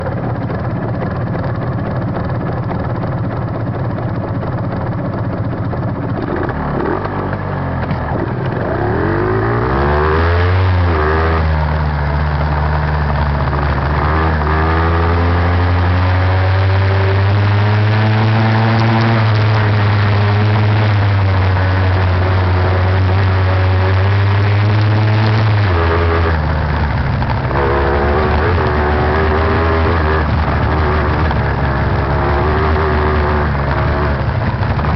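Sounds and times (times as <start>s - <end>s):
two-stroke motorcycle engine: 0.0s - 34.9s.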